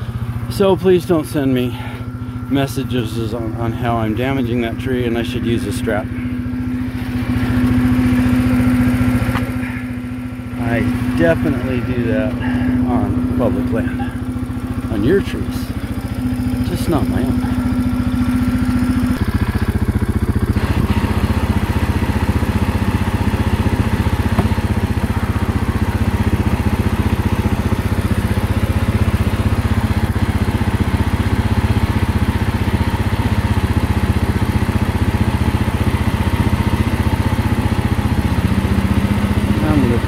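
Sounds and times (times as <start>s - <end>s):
quad engine running: 0.0s - 40.0s.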